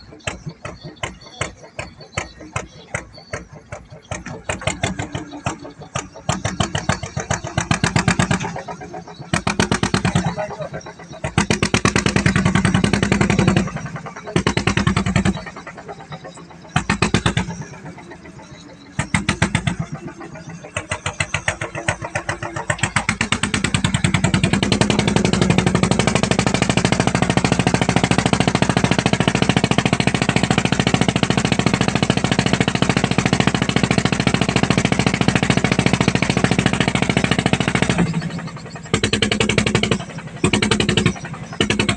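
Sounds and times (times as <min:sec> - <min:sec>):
boat engine chugging: 0:00.0 - 0:41.9.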